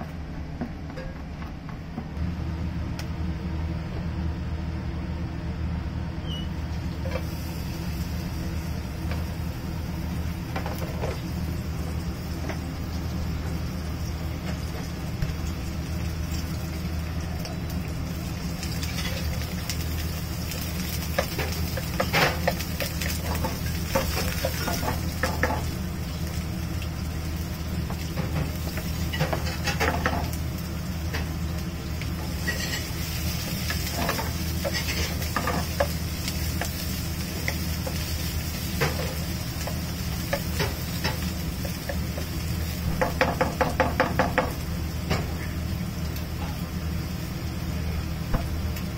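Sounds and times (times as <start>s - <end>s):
steady low hum: 0.0s - 48.9s
food sizzling: 6.8s - 48.9s.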